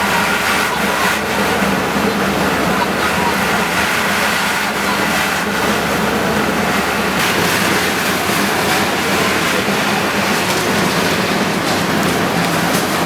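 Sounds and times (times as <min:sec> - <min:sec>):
heavy machinery rumble and clatter: 0:00.0 - 0:13.0.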